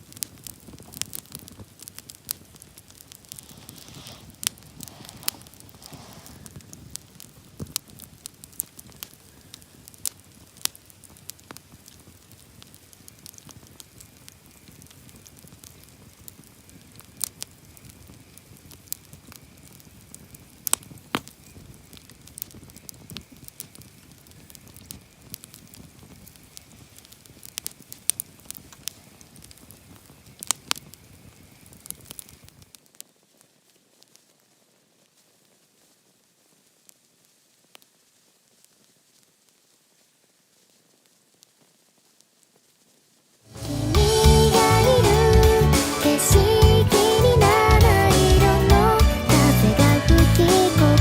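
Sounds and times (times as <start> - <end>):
campfire crackling and popping: 0.0 - 51.0
fire hiss: 0.0 - 51.0.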